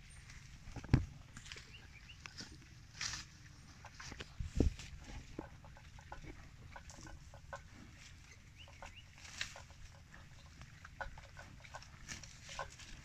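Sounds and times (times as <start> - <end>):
buffalo tearing and chewing grass: 0.0 - 13.0.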